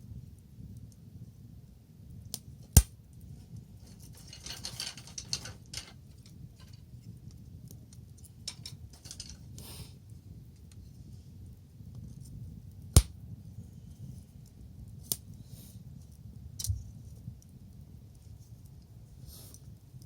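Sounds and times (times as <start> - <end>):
bonfire crackling and popping: 0.0 - 20.0
low fire rumble: 0.0 - 20.0.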